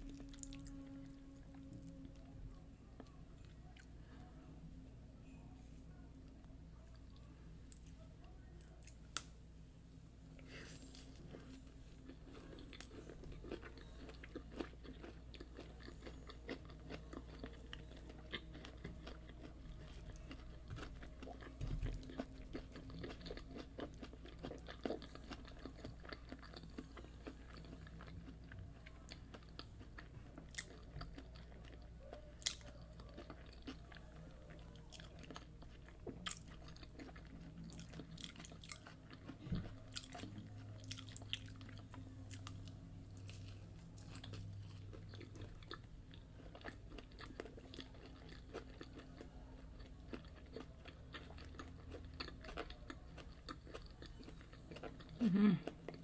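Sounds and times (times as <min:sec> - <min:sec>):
person chewing and biting food: 0:10.6 - 0:56.0.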